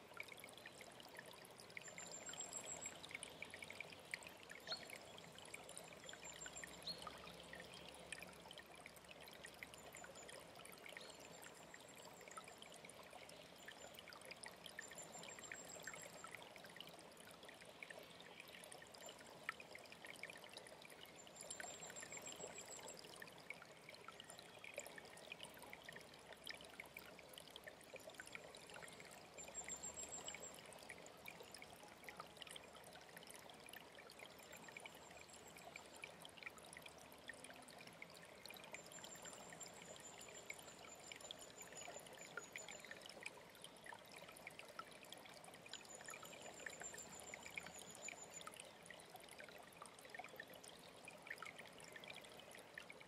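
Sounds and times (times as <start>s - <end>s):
mountain stream trickling: 0.0s - 53.0s.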